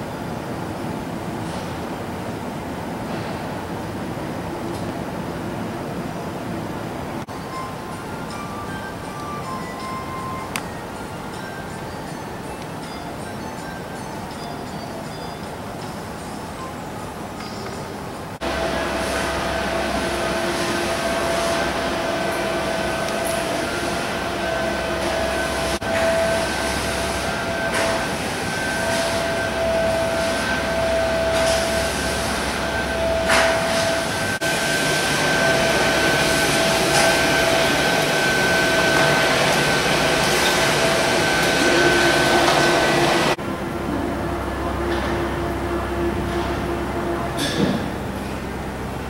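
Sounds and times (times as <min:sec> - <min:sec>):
rushing indoor ambience with hum: 0:00.0 - 0:49.0.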